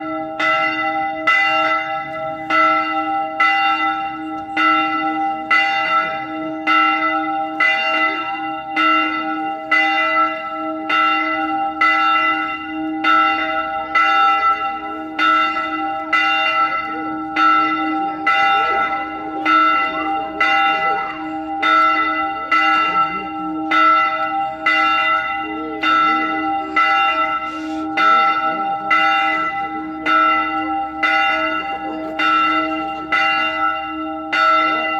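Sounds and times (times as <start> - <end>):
bell ringing: 0.0 - 34.9.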